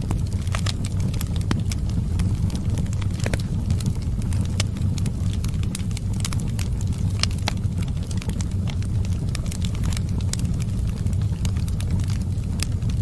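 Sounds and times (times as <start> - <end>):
low fire rumble: 0.0 - 13.0
wood fire crackling and popping: 0.0 - 13.0.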